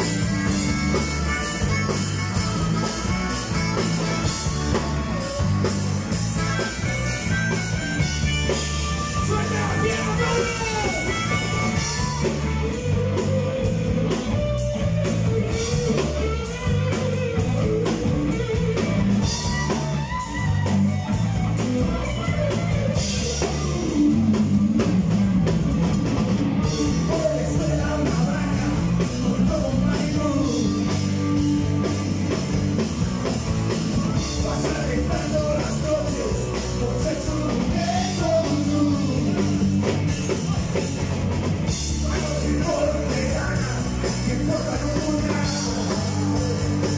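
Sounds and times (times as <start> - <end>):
drum kit: 0.0 - 46.9
electric bass: 0.0 - 46.9
electric guitars: 0.0 - 46.9.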